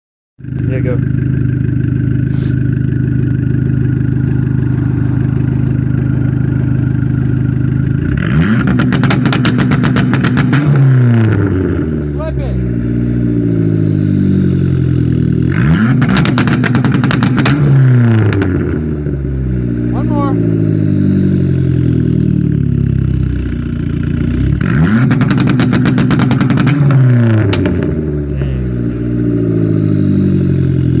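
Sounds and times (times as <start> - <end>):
car engine idling and revving: 0.4 - 31.0
exhaust popping: 0.4 - 31.0.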